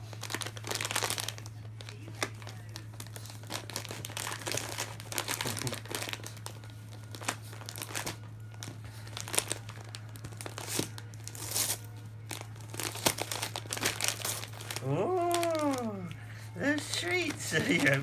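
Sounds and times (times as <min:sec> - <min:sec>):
dog tearing wrapping paper: 0:00.0 - 0:18.0
steady low hum: 0:00.0 - 0:18.0.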